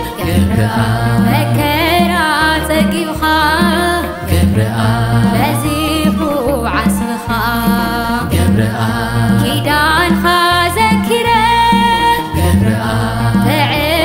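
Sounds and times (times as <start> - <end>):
instrumental accompaniment with bass line: 0.0 - 14.0
woman singing with vibrato: 0.0 - 14.0.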